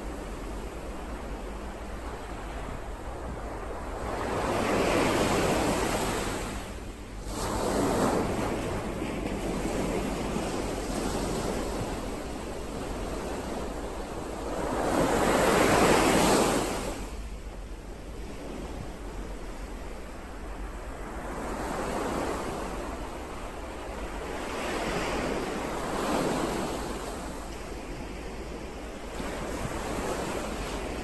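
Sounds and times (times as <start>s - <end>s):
ocean waves surging and washing back: 0.0s - 31.0s.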